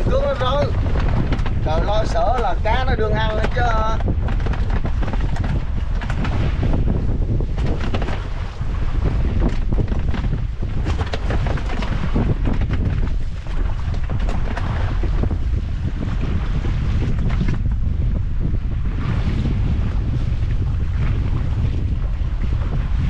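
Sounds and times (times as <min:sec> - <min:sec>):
water slapping boat hull: 0:00.0 - 0:23.0
wind buffeting microphone: 0:00.0 - 0:23.0.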